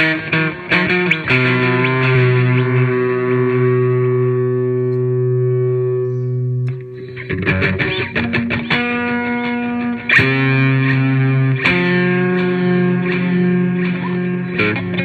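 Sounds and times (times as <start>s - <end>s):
distorted electric guitar with delay: 0.0s - 15.0s.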